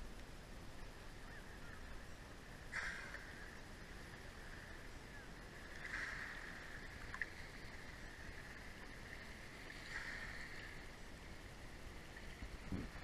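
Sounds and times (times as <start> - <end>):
faint sea water washing ashore: 0.3 - 13.0.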